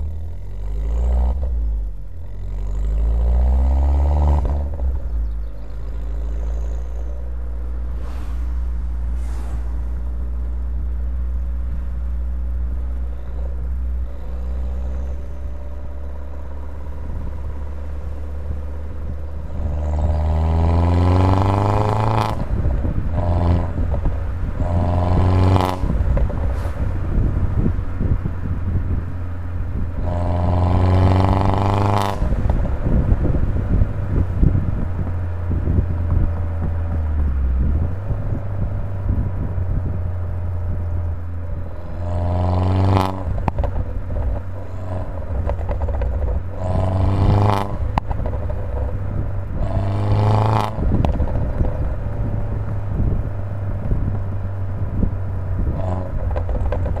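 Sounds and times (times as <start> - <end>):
car engine accelerating and droning: 0.0 - 57.0.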